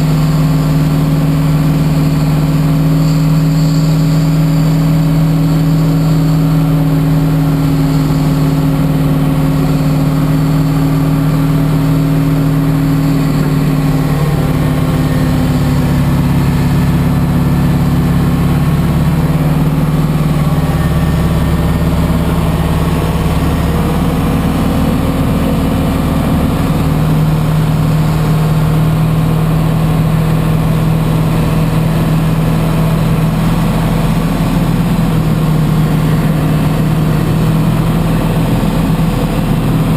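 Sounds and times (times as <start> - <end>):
tug engine low hum: 0.0 - 39.9.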